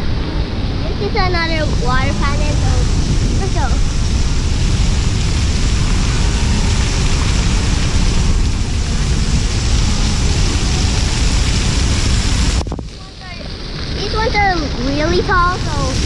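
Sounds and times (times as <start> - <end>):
fountain water splashing: 0.0 - 16.0
wind buffeting microphone: 0.0 - 16.0.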